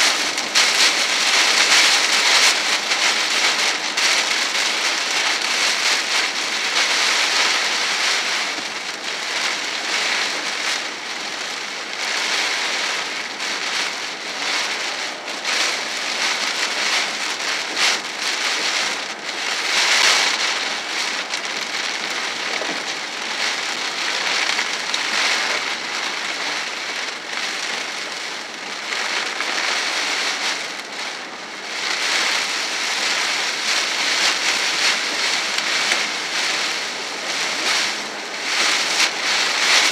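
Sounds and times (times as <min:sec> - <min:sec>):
heavy rain on car windshield: 0:00.0 - 0:39.9.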